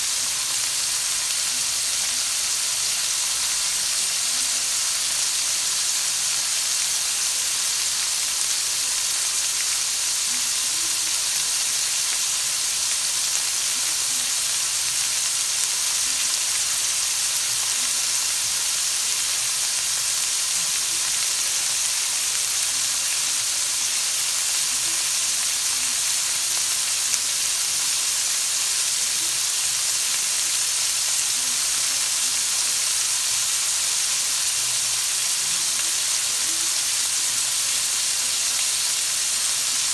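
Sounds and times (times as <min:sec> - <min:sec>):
vegetables sizzling in oil: 0:00.0 - 0:39.9.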